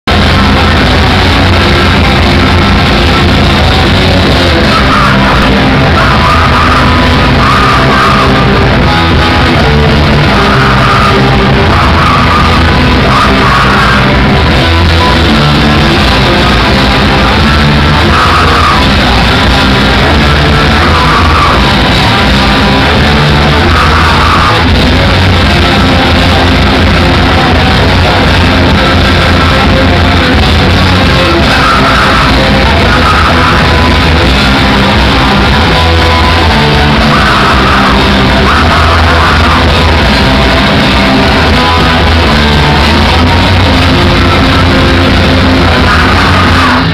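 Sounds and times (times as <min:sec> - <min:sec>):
live rock band playing: 0:00.1 - 0:46.9
shouted vocals: 0:00.1 - 0:46.9.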